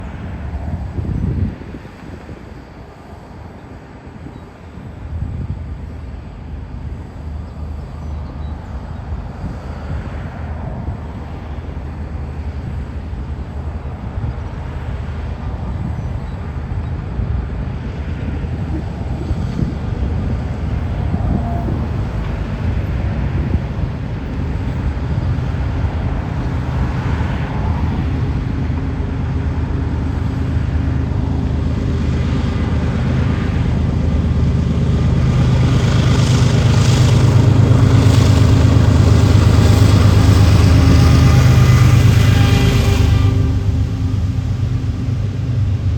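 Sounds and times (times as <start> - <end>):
locomotive engine drone: 0.0 - 45.9.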